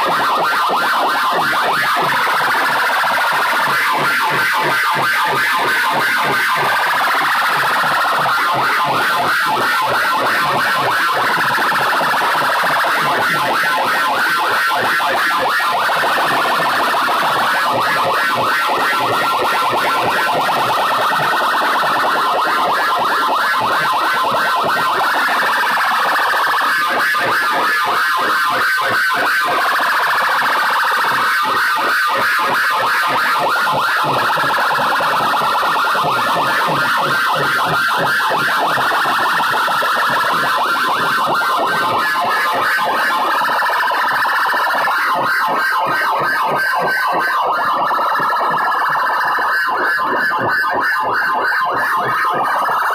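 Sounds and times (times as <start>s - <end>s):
loud electronic music with siren tone: 0.0s - 52.9s.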